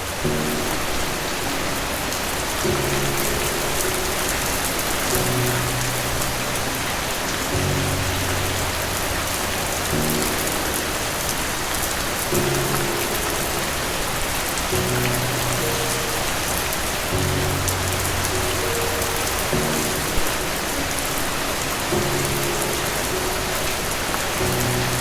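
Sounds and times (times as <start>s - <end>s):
heavy rain falling: 0.0s - 25.0s
soft low music notes: 0.0s - 25.0s.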